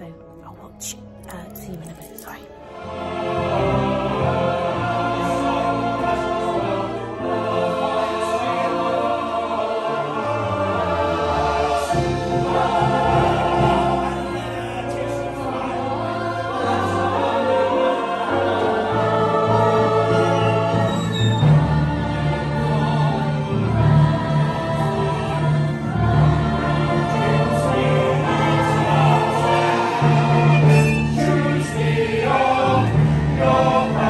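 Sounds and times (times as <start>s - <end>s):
choir singing musical number: 2.5s - 34.0s.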